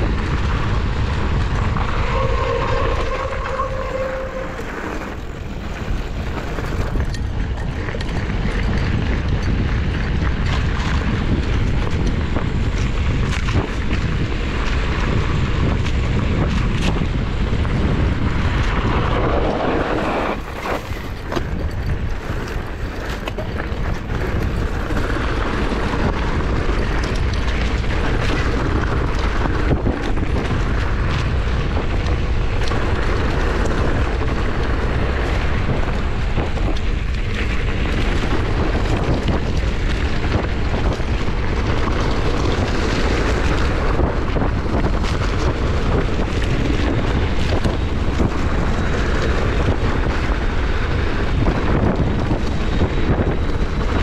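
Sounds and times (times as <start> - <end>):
bike clicks and rattles: 0.0 - 3.6, 4.4 - 54.0
tyres rolling on dirt: 0.0 - 54.0
wind buffeting microphone: 0.0 - 54.0.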